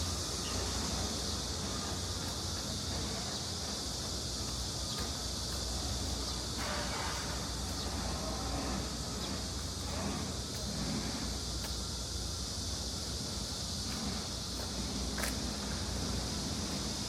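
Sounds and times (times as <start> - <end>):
low rumble of city traffic: 0.0 - 17.0
stream hiss: 0.0 - 17.0.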